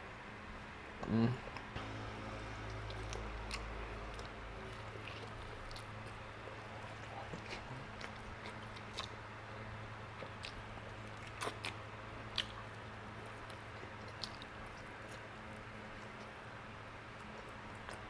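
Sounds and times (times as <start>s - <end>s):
low steady hum: 0.0s - 18.0s
person chewing meat: 2.6s - 18.0s.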